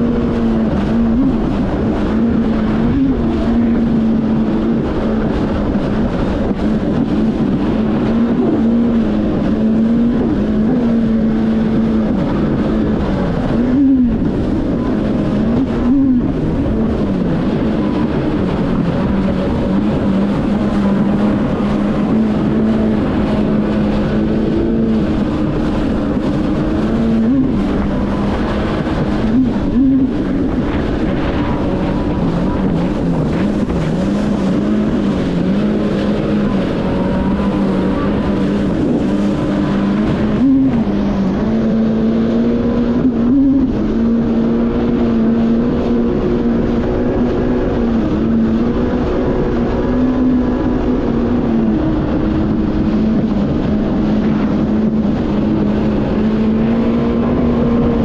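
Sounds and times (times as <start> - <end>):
jet ski engine at high speed: 0.0 - 58.0
rushing water: 0.0 - 58.0
wind noise: 0.0 - 58.0.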